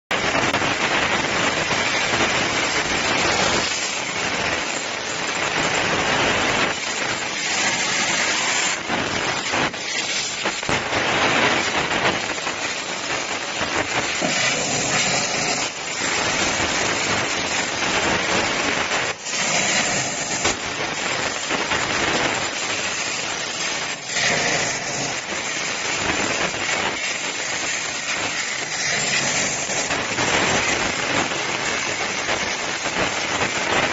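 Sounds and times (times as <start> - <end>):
plasma torch hissing: 0.1 - 33.9.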